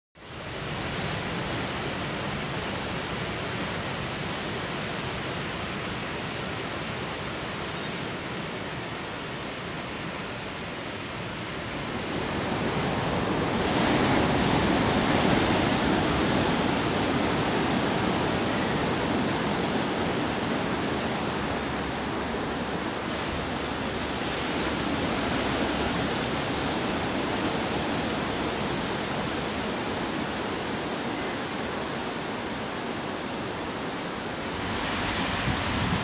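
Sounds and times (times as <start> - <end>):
ocean surf rushing: 0.2 - 36.0.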